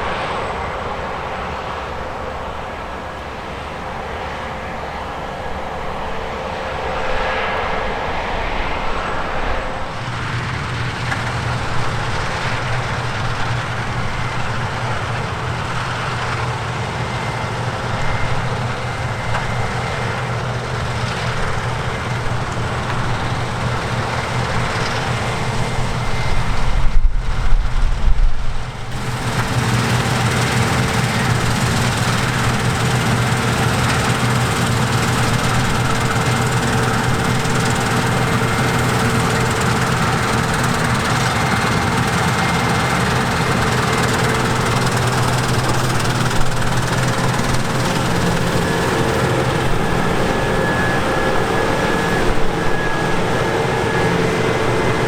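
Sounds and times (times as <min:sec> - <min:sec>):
harvester and tractor engines: 0:00.0 - 0:55.0
low engine hum: 0:00.0 - 0:55.0.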